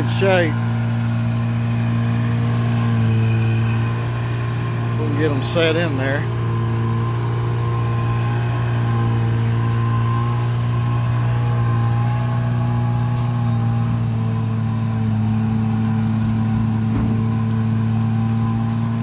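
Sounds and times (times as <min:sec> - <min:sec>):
heavy diesel engine drone: 0:00.0 - 0:19.0.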